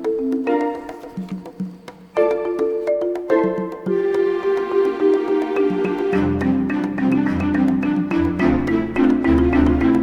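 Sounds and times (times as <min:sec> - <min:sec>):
mallet percussion tune: 0:00.0 - 0:10.0
woody taps keeping the beat: 0:00.0 - 0:10.0.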